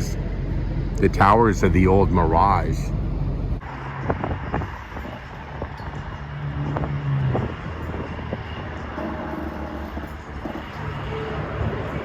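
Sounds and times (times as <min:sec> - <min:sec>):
engine hum: 0:00.0 - 0:12.0
traffic rumble: 0:00.0 - 0:12.0.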